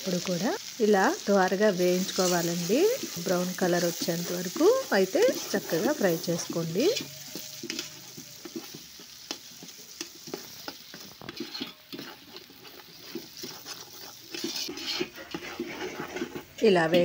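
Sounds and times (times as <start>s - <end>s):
frying oil sizzling and popping: 0.0s - 17.0s
spoon stirring in pan: 1.7s - 17.0s.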